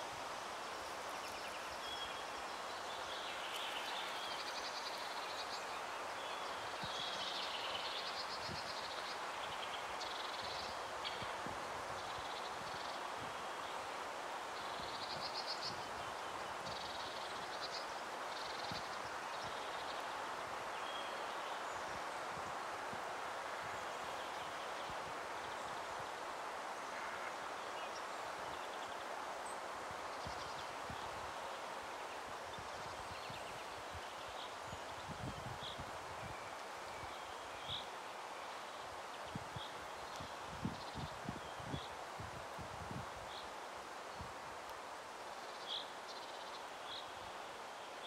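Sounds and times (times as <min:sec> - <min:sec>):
steady hiss: 0:00.0 - 0:48.0.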